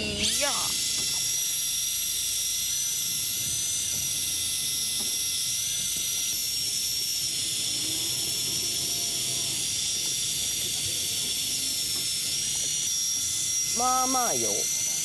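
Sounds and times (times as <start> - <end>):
electric fishing reel whining: 0.0 - 15.0.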